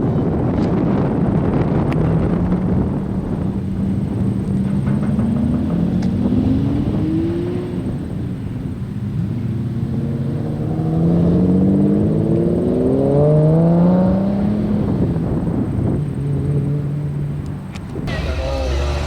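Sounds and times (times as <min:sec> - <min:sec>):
sports car engine accelerating: 0:01.4 - 0:19.0.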